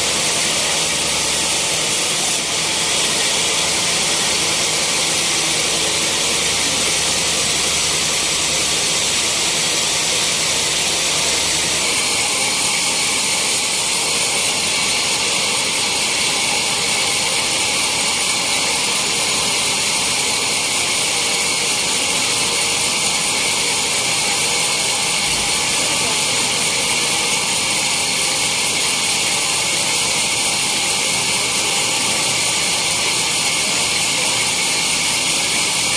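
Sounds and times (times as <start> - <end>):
sawmill machinery high-pitched hiss: 0.0 - 35.9.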